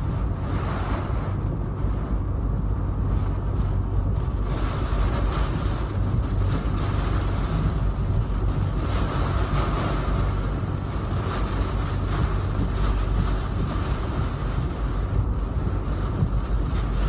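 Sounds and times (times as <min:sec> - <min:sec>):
hurricane wind roaring: 0:00.0 - 0:17.0.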